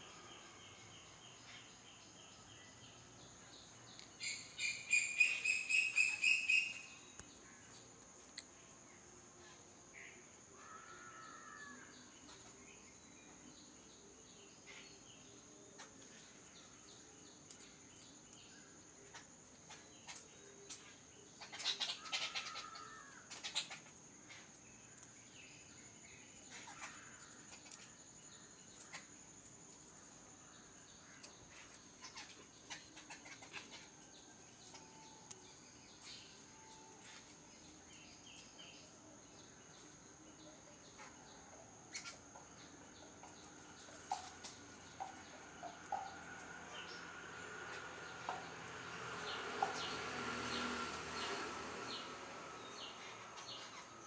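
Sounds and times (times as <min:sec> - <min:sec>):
sparrows chirping: 0:00.0 - 0:07.6, 0:10.7 - 0:29.5, 0:30.5 - 0:54.0
high insect drone: 0:00.0 - 0:54.0.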